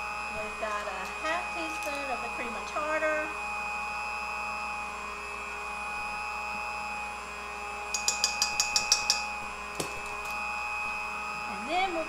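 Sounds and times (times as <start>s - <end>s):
stand mixer motor whine: 0.0s - 12.0s.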